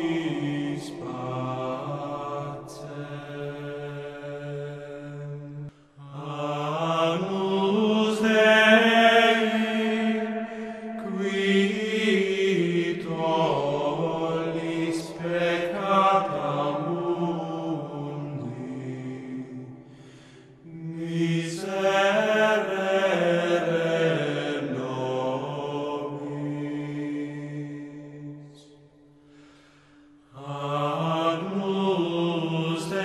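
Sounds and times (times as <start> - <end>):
voices chanting slowly: 0.0 - 33.0.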